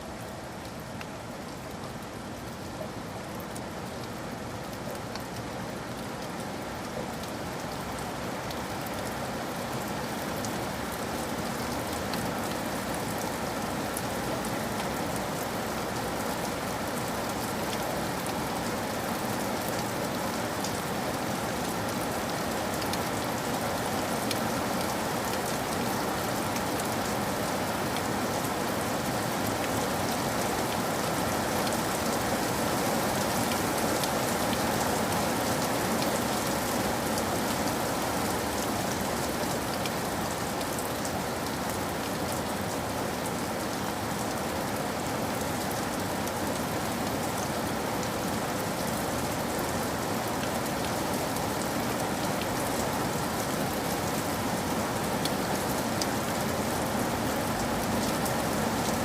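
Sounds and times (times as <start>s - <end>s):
steady rain drops tapping: 0.0s - 59.0s.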